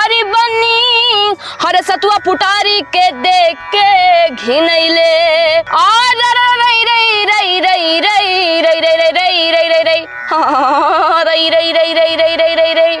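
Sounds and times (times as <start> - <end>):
woman singing folk song: 0.0 - 13.0.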